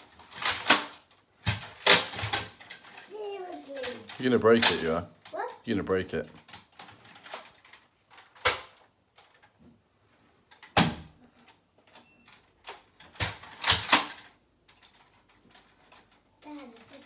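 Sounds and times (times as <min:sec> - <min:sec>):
toy blaster plastic clacks: 0:00.0 - 0:05.5, 0:06.4 - 0:09.5, 0:11.4 - 0:17.0.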